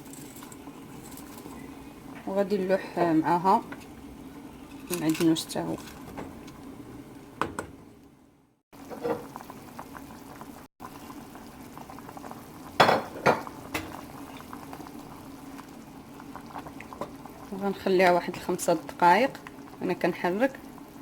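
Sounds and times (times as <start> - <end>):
broth bubbling in a pot: 0.0 - 8.2, 8.8 - 21.0.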